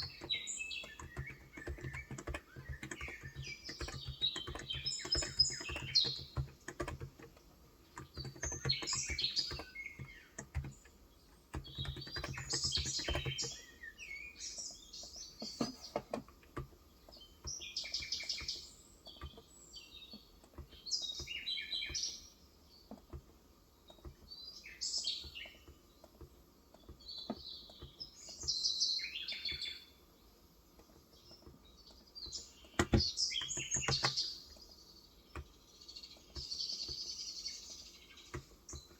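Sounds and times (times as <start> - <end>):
typing on a keyboard: 0.0 - 22.3, 22.9 - 28.7, 30.7 - 38.9
small birds chirping: 0.0 - 38.9.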